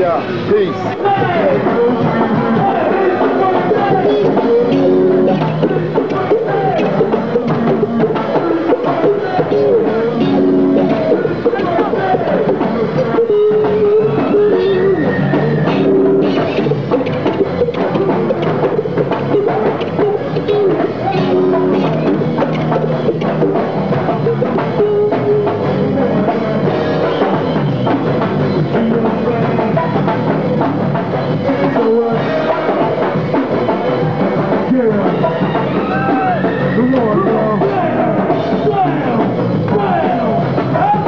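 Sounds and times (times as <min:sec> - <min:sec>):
drum kit and percussion beat: 0:00.0 - 0:41.0
voices calling out: 0:00.0 - 0:41.0.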